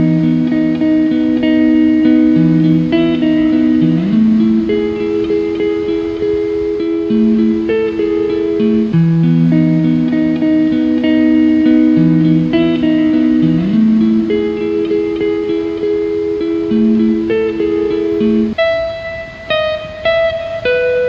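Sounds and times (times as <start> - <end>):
calm guitar music: 0.0 - 21.0.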